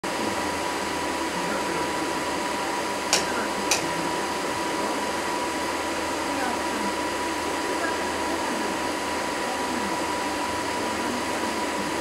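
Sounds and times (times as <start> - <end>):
projector fan whirring: 0.0 - 12.0.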